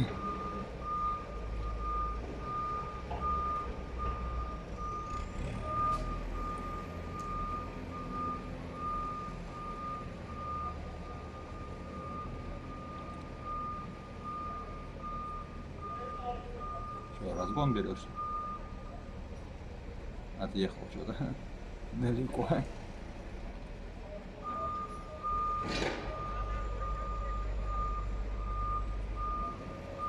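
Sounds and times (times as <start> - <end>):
reversing alarm beeping: 0.0 - 19.0, 24.4 - 30.0
vehicle engine running low: 0.0 - 30.0.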